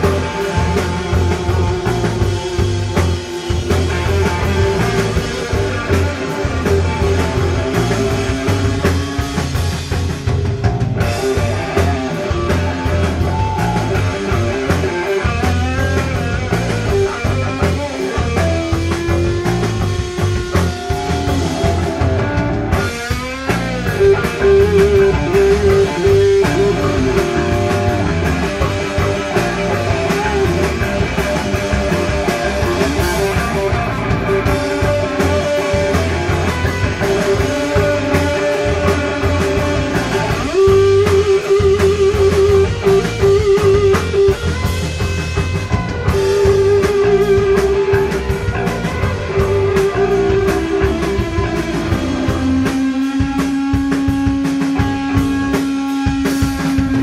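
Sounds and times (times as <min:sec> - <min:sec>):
drum kit: 0:00.0 - 0:57.0
electric guitar long notes: 0:00.0 - 0:57.0.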